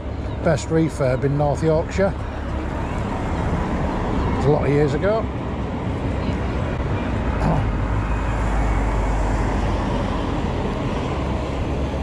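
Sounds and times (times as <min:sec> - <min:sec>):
cars in traffic: 0:00.0 - 0:12.0
tyres rolling on tarmac: 0:00.0 - 0:12.0.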